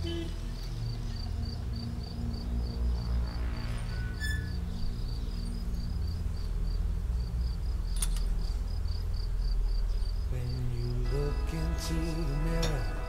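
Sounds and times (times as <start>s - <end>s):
cricket chirping: 0.0s - 13.0s
low steady drone: 0.0s - 13.0s.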